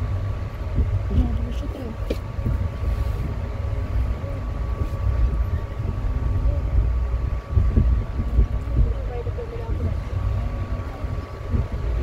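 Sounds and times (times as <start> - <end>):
train carriage rumbling: 0.0 - 12.0.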